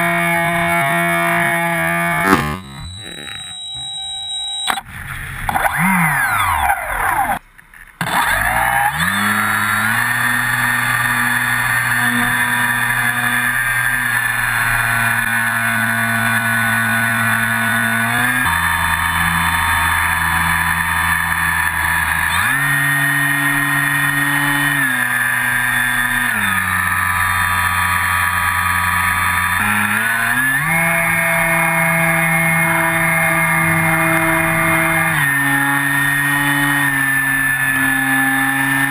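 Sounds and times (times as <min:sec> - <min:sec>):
model plane motor whine: 0:00.0 - 0:07.4, 0:08.0 - 0:38.9.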